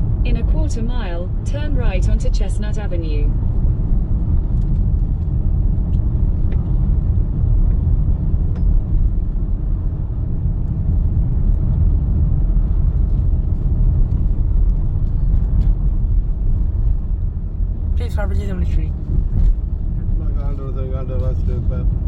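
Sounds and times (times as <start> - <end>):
car driving on road: 0.0 - 22.0.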